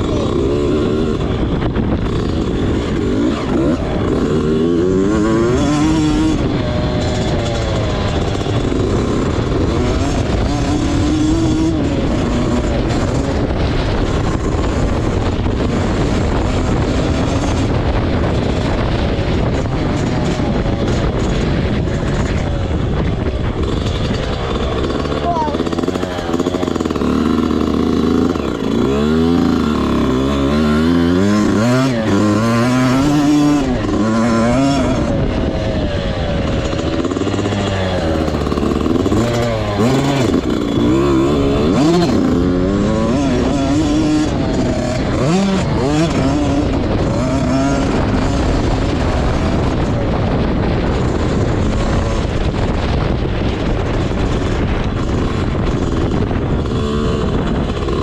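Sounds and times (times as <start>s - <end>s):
dirt bike engine revving: 0.0s - 58.0s
steady rushing noise: 0.0s - 58.0s.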